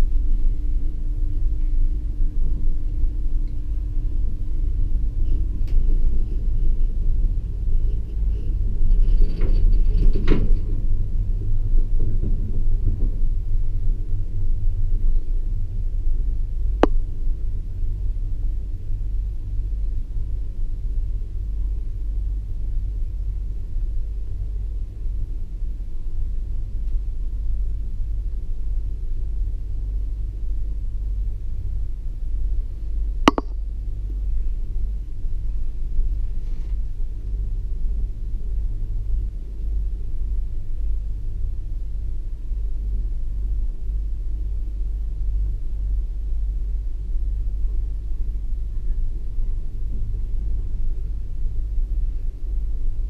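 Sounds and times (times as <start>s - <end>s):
gondola cabin rumble: 0.0s - 53.0s.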